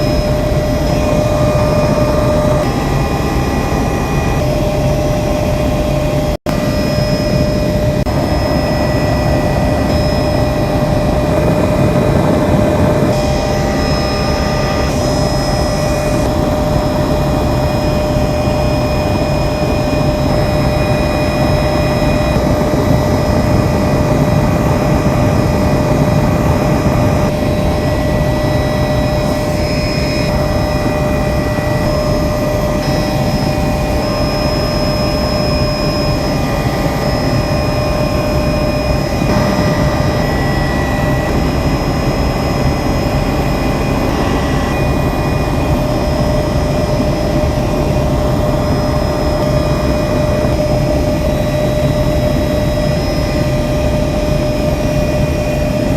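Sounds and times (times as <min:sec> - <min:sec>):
helicopter engine and rotor: 0:00.0 - 0:55.9
high whine: 0:00.0 - 0:55.9.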